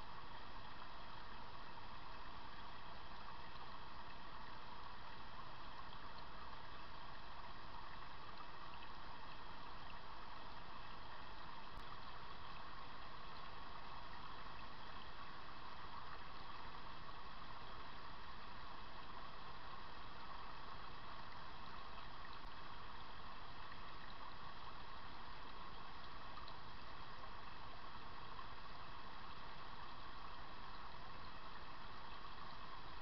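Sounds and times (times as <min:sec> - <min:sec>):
stream running over stones: 0:00.0 - 0:33.0.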